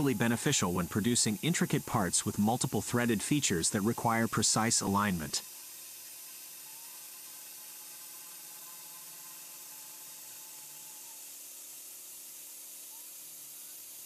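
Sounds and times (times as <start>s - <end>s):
mill cutting hiss: 0.0s - 14.0s.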